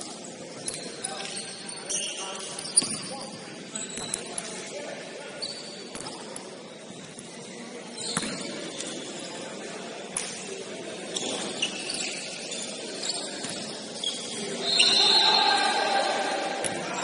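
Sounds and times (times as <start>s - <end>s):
sneaker squeaks: 0.0s - 4.6s, 5.3s - 9.5s, 10.9s - 15.9s.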